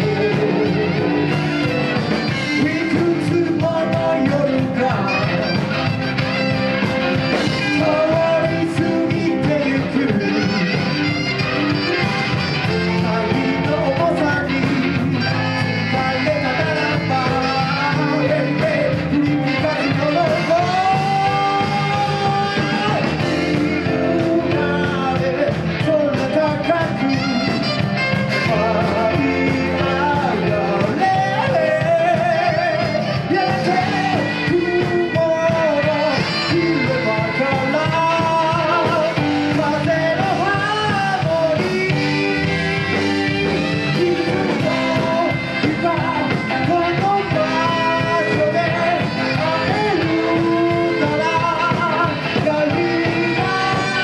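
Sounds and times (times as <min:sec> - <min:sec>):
live rock and roll band: 0:00.0 - 0:54.0
person singing: 0:00.0 - 0:54.0.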